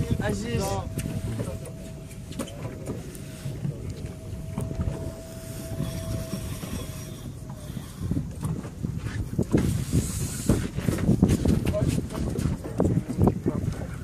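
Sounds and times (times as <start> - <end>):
boat engine idling: 0.0 - 11.2
thin steady whine: 0.0 - 11.3.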